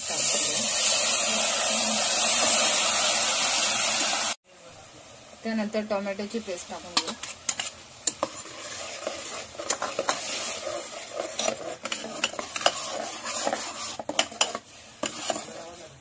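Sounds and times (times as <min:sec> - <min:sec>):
paste sizzling in oil: 0:00.0 - 0:04.4, 0:05.0 - 0:16.0.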